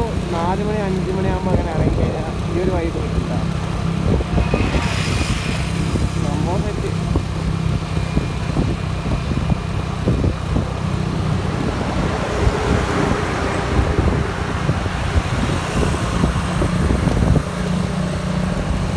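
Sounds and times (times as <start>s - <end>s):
motorcycle engine running: 0.0s - 18.9s
wind and road noise: 0.0s - 18.9s.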